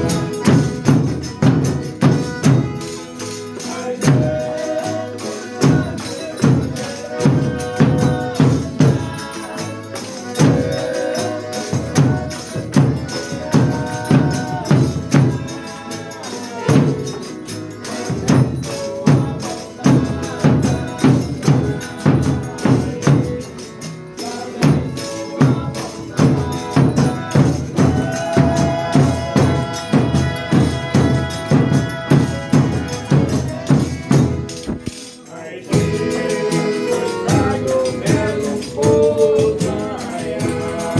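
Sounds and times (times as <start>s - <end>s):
drum and tambourine beat: 0.0s - 40.9s
singing: 0.0s - 40.9s.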